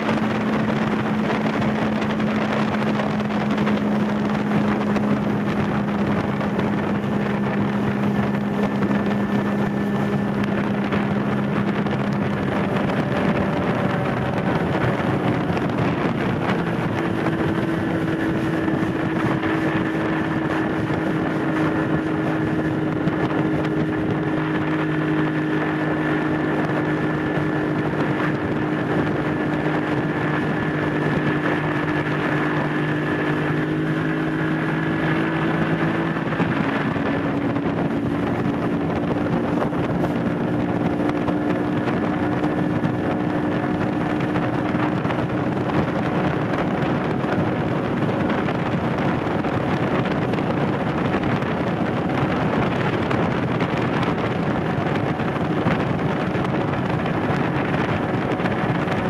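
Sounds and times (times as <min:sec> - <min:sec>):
outboard motor running: 0:00.0 - 0:59.0
wind buffeting microphone: 0:00.0 - 0:59.0.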